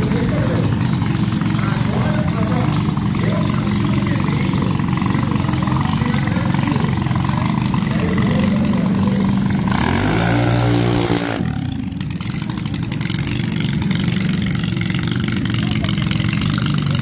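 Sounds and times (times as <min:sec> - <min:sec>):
dragster engine revving: 0:00.0 - 0:17.0.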